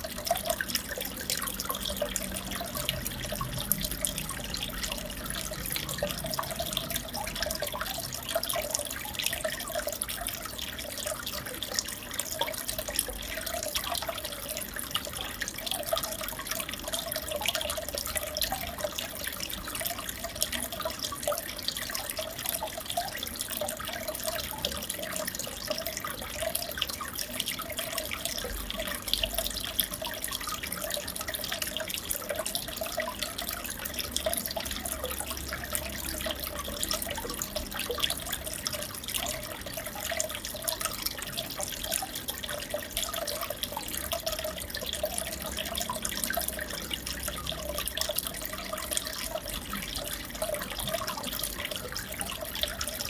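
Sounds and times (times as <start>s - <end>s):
water trickling and bubbling: 0.0s - 53.0s.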